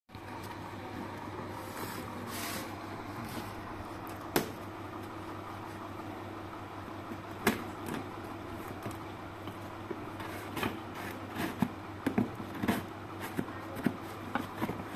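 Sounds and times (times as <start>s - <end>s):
steady low hum: 0.1s - 14.9s.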